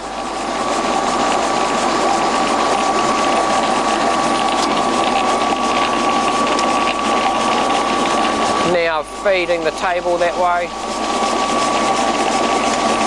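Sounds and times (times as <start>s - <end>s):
gear whine: 0.0s - 13.0s
milling machine gearbox running: 0.0s - 13.0s.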